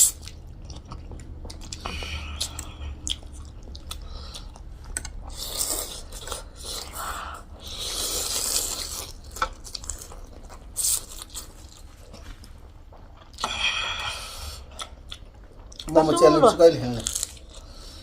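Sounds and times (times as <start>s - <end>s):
chewing and biting: 0.0s - 16.0s, 16.9s - 18.0s.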